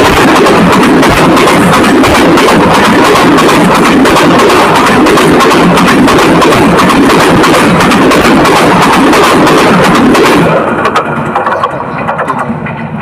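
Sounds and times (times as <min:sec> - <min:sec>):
train passing overhead: 0:00.0 - 0:13.0.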